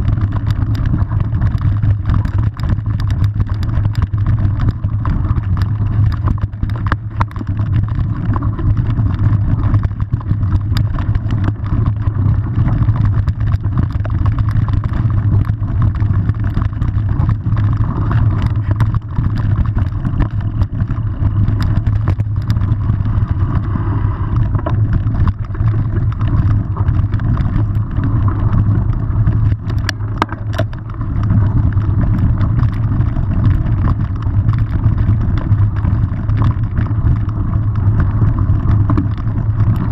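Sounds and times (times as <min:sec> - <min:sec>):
bike clicks and rattles: 0:00.0 - 0:39.9
bike rumbling over dirt trail: 0:00.0 - 0:39.9.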